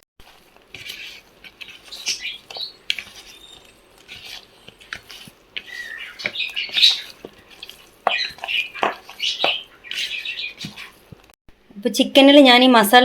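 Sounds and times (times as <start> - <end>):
wet squelching of mixing meat: 0.2 - 11.2.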